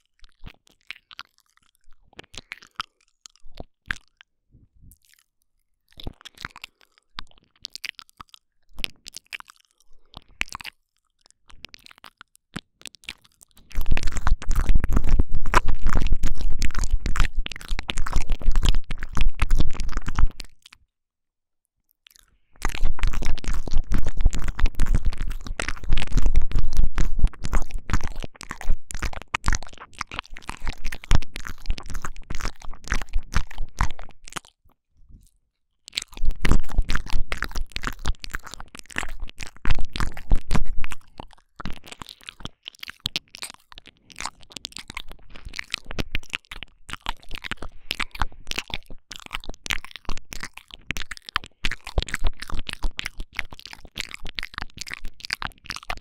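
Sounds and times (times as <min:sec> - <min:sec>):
wet mouth clicks and smacks: 0:00.0 - 0:20.8, 0:22.0 - 0:56.0.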